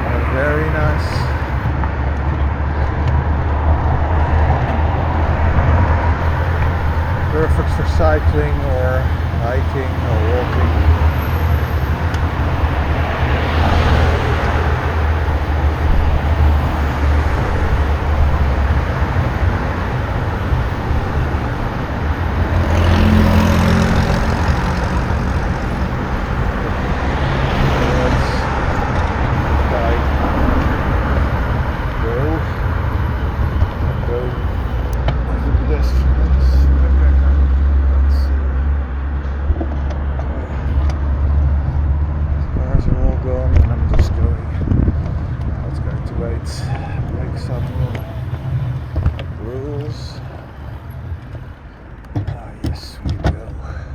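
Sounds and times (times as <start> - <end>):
rattling vibration noise: 0.0 - 53.7
low hum: 0.0 - 53.9
low rumble of riding noise: 0.0 - 53.9.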